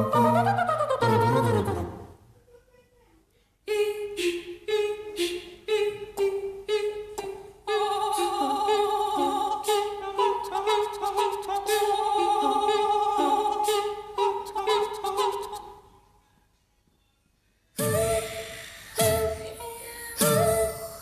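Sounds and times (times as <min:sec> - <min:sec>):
a cappella voices singing: 0:00.0 - 0:02.0, 0:03.6 - 0:15.9, 0:17.8 - 0:21.0.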